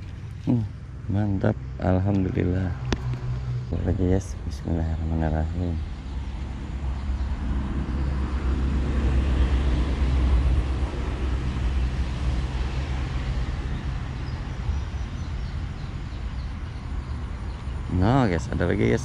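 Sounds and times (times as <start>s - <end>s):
vehicle passing on highway: 0.0s - 19.0s.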